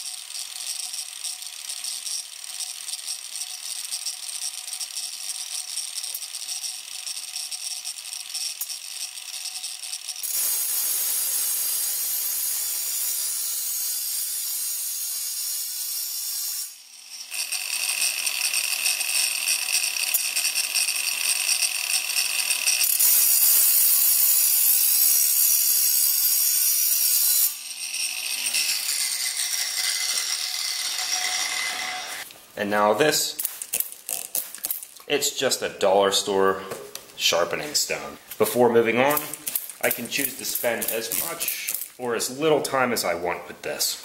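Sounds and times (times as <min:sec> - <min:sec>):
angle grinder grinding stone: 0:00.0 - 0:32.3, 0:33.3 - 0:36.6, 0:37.2 - 0:43.4.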